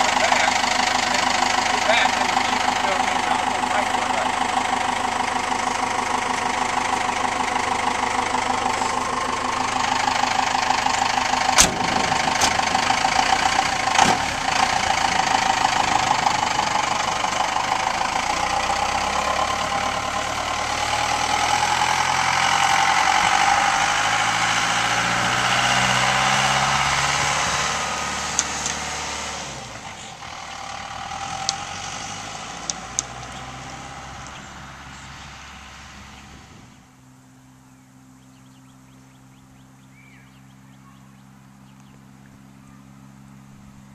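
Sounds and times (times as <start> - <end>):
diesel truck engine: 0.0 - 43.9.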